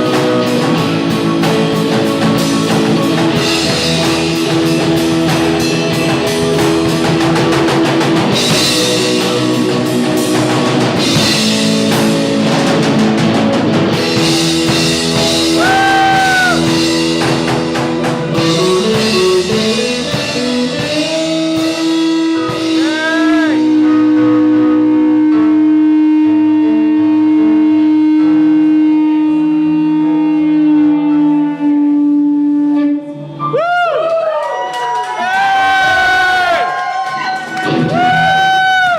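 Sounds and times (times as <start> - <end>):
drum kit: 0.0 - 32.9, 34.9 - 38.9
electric guitar: 0.0 - 38.9.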